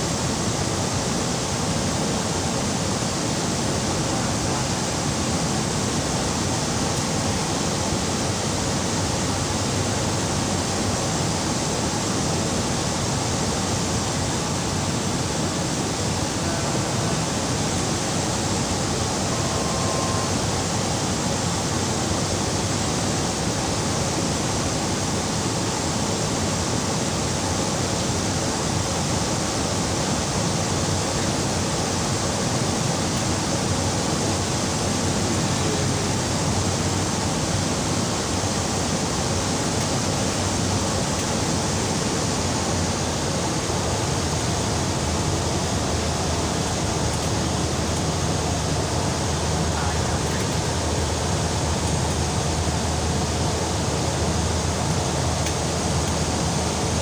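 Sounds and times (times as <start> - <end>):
turboprop plane cabin drone: 0.0 - 57.0.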